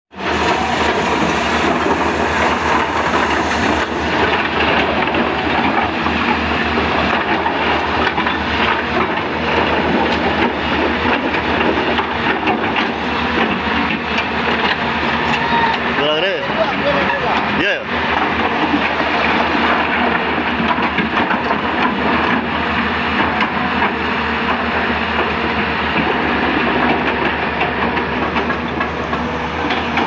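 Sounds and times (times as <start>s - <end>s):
excavator diesel engines running: 0.1s - 30.0s.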